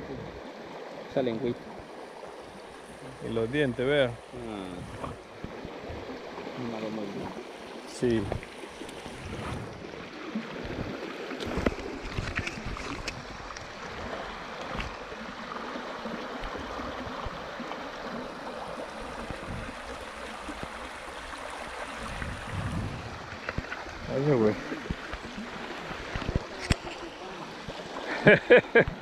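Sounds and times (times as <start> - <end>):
stream running over rocks: 0.0 - 29.0.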